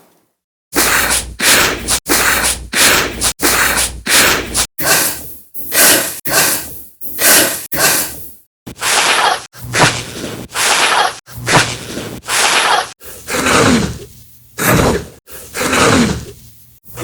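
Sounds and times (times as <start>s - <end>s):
heavy breathing: 0.8s - 17.0s.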